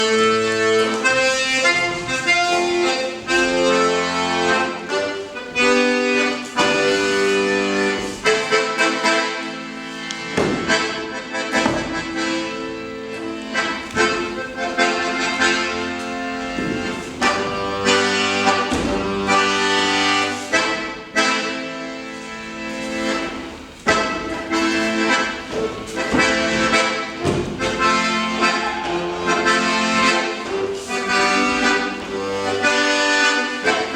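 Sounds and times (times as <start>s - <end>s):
accordion chords: 0.0s - 33.9s.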